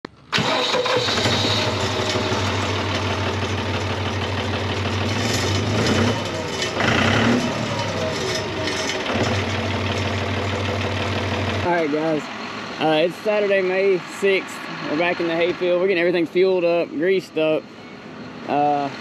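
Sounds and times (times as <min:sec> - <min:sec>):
engine idling: 0:00.2 - 0:19.0.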